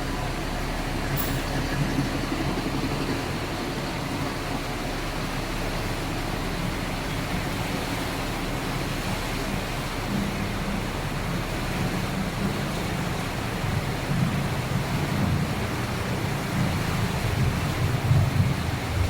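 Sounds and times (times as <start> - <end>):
floodwater rushing: 0.0 - 19.0
low engine hum: 0.0 - 19.0.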